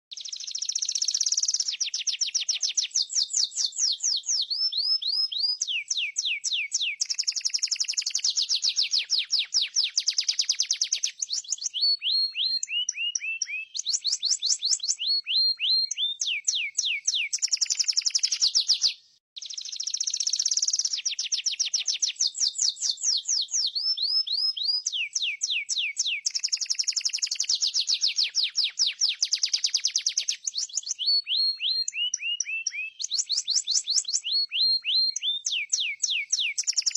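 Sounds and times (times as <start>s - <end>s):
canary singing rapid trills: 0.1s - 36.9s.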